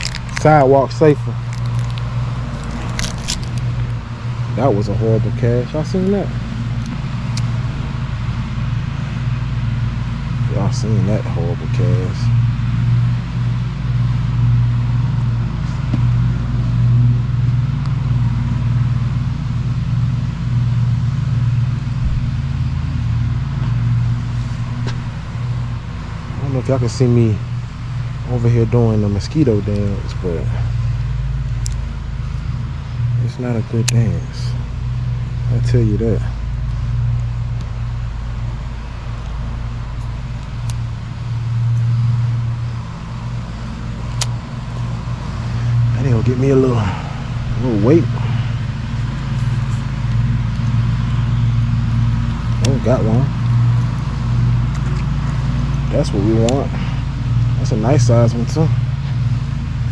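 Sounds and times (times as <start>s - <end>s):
low motor hum: 0.0s - 59.9s
vehicle engine rumble: 0.0s - 59.9s.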